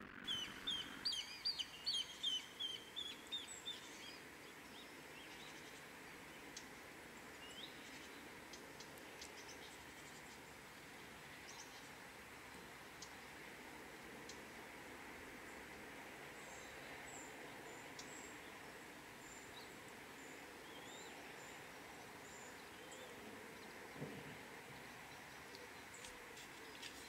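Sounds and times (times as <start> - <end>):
faint outdoor hiss: 0.0 - 27.0.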